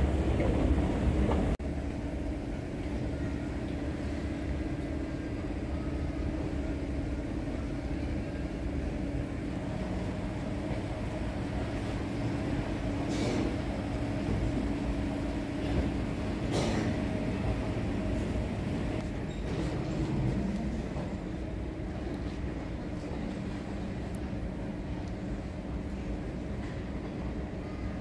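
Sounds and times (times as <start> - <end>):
airport terminal hall rumble: 0.0 - 28.0.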